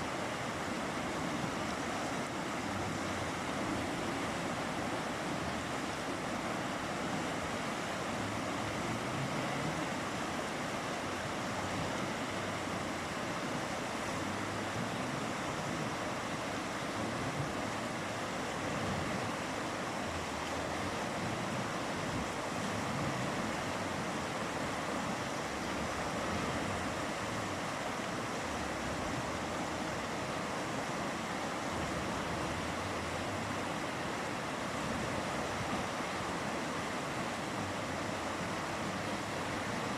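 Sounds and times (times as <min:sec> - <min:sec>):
mountain river rushing: 0:00.0 - 0:39.9.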